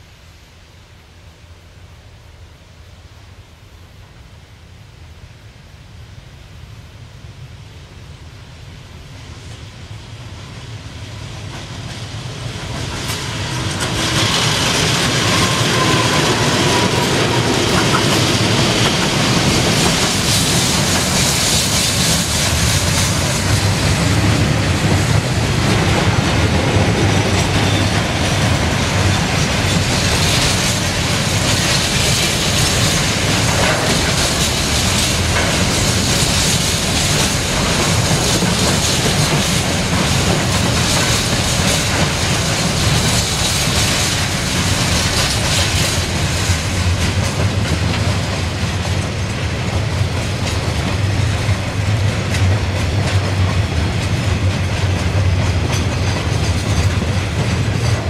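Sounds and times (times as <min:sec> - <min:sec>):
diesel locomotive passing: 0:07.3 - 0:58.0
train wheels rumbling on rails: 0:07.3 - 0:58.0.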